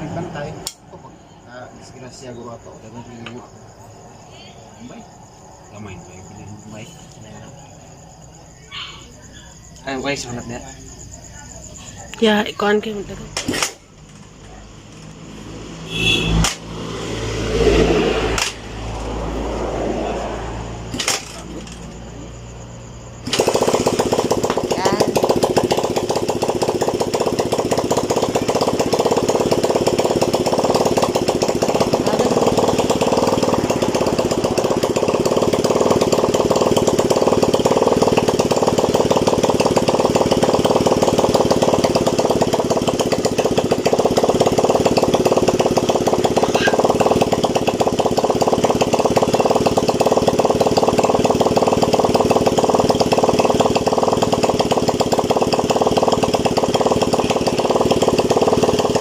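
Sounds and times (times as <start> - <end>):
motorcycle engine running steadily: 9.7 - 20.2, 20.8 - 59.0.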